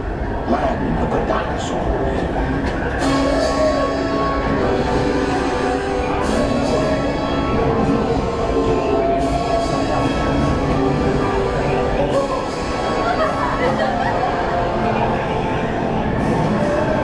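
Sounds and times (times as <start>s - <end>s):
train rumbling: 0.0s - 17.0s
dark orchestral music: 2.0s - 17.0s.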